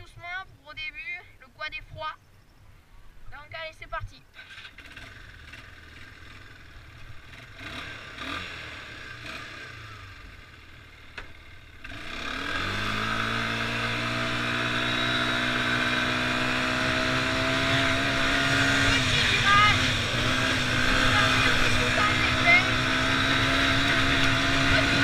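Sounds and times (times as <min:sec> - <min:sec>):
quad bike engine revving: 0:04.3 - 0:25.0.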